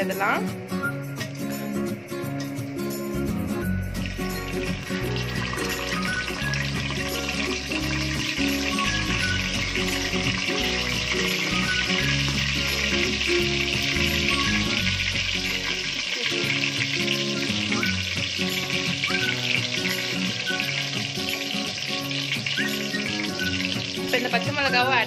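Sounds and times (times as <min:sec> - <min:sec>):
soft background music: 0:00.0 - 0:25.0
spices sizzling in hot oil: 0:00.0 - 0:25.0.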